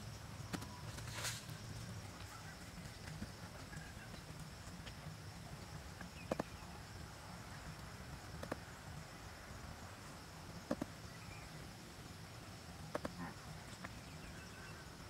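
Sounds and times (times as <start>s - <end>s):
faint insect drone: 0.0s - 15.0s.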